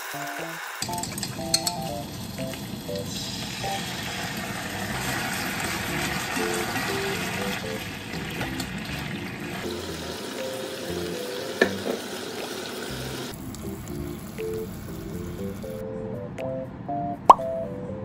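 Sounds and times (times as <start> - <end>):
chicken sizzling in a frying pan: 0.0 - 15.8
soft plucked background music: 0.1 - 4.0, 4.8 - 18.0.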